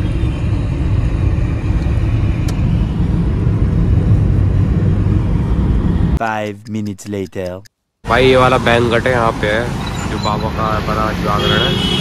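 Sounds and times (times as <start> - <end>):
vehicle rumble: 0.0 - 11.8.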